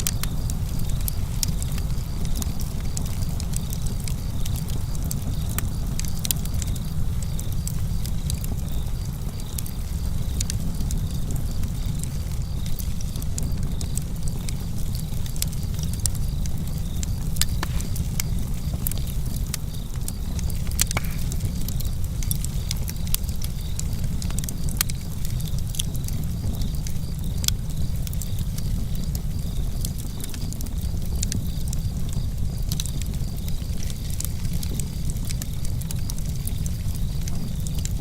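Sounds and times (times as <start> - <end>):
campfire burning: 0.0 - 38.0
wood crackling and popping: 0.0 - 38.0.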